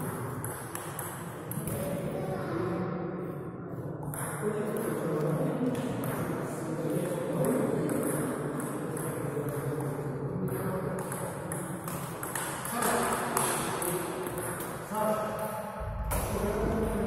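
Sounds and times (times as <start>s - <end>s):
table tennis ball bouncing: 0.0s - 1.9s, 4.0s - 17.0s.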